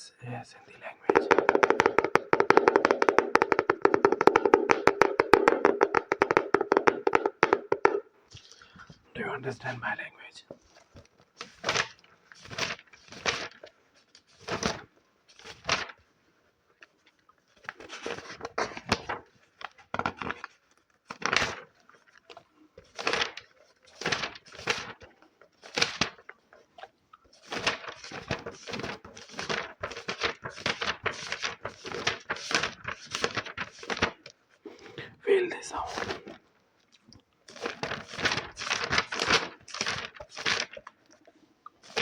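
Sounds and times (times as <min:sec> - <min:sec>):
book pages rustling: 0:00.6 - 0:09.0, 0:10.4 - 0:42.0.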